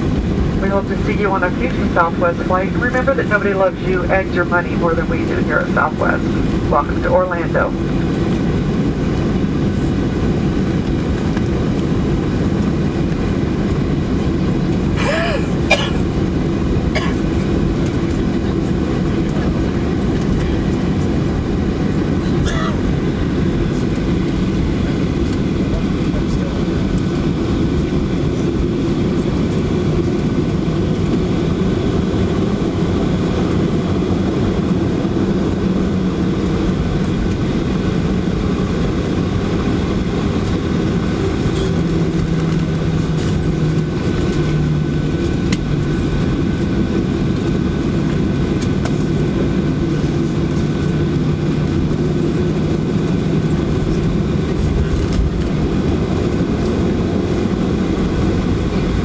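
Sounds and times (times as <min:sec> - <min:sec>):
airplane cabin rumble: 0:00.0 - 0:59.0
engines humming at idle: 0:00.0 - 0:59.0.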